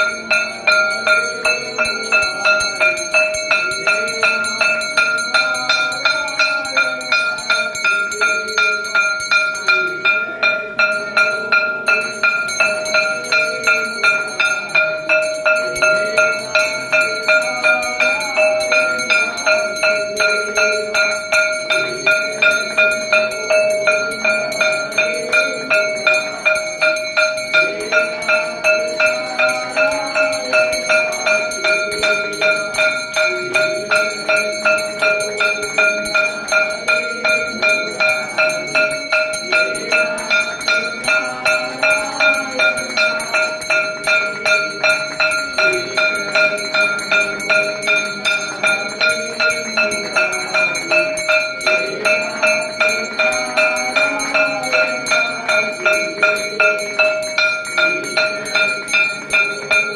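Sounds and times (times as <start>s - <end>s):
temple bell ringing: 0.0s - 59.9s.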